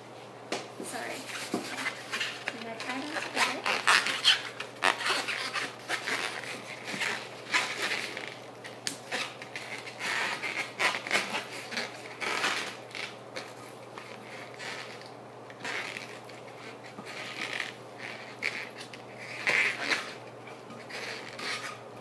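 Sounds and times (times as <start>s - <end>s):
rubber balloons squeaking: 0.9s - 22.0s.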